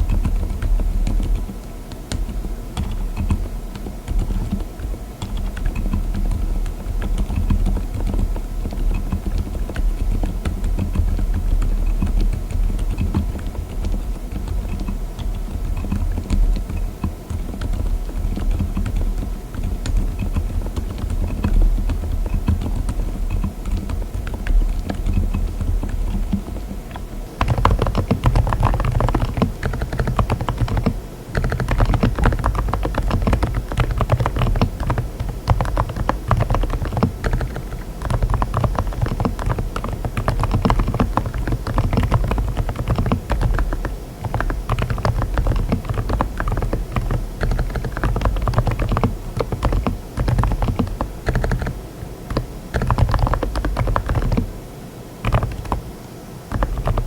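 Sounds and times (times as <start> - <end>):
fast typing on mechanical keyboard: 0.0 - 54.5, 55.2 - 57.0.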